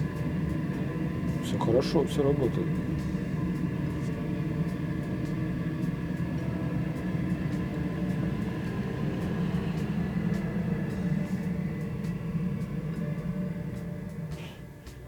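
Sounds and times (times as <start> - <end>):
exhaust fan droning: 0.0 - 15.0
kindling crackling in fireplace: 0.0 - 15.0.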